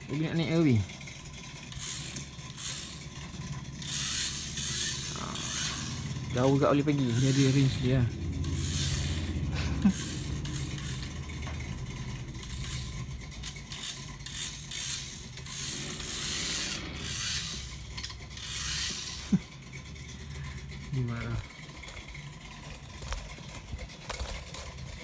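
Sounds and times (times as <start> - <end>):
toy car motor whirring: 0.0 - 25.0.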